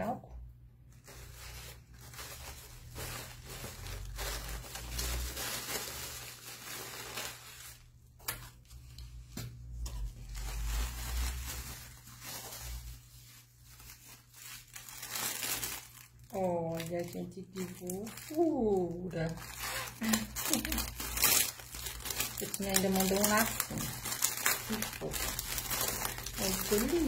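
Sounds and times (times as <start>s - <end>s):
plastic packaging crinkling: 0.8s - 27.0s.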